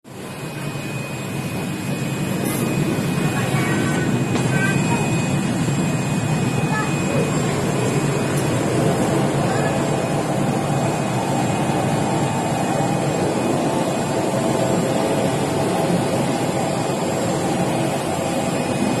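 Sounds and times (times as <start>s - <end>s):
railbus engine and wheels rumble: 0.1s - 19.0s.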